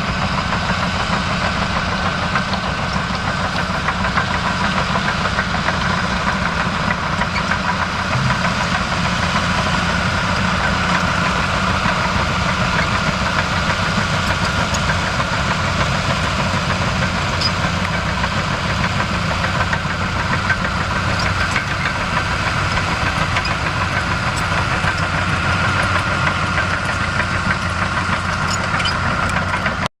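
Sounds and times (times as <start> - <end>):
aircraft piston engine idling: 0.4 - 29.8.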